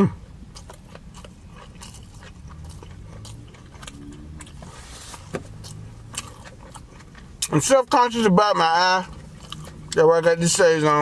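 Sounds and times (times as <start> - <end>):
wet chewing and mouth clicks: 0.3 - 11.0.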